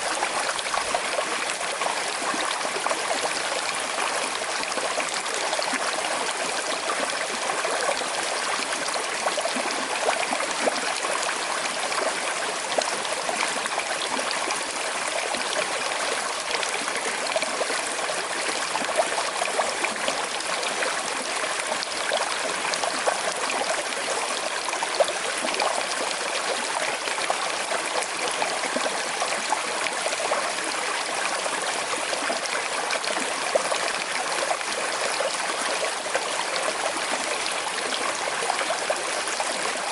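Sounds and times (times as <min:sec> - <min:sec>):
river trickling over stones: 0:00.0 - 0:39.9.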